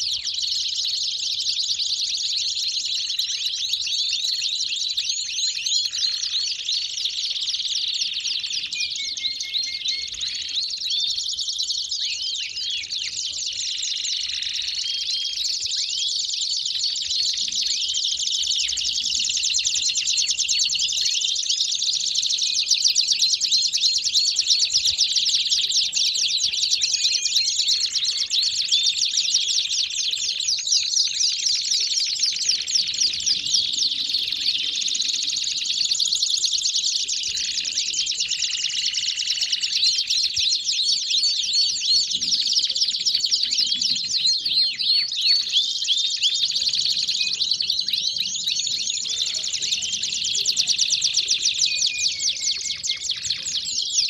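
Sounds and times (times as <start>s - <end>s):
canaries singing: 0.0s - 54.0s.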